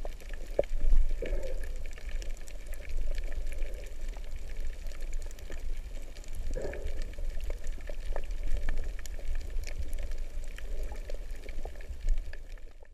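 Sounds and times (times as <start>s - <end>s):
muffled underwater water rumble: 0.0s - 12.9s
sharp underwater clicks and crackles: 0.0s - 12.9s.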